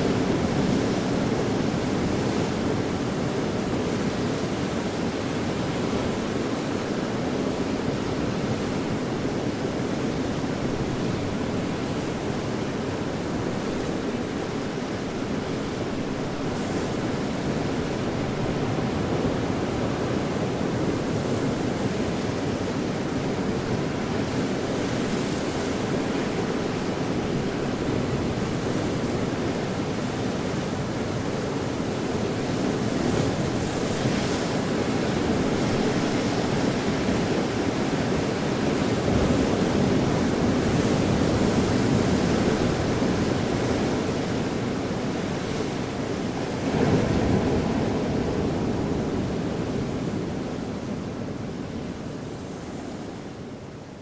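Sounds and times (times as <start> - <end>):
surf washing against rocky shore: 0.0 - 53.3.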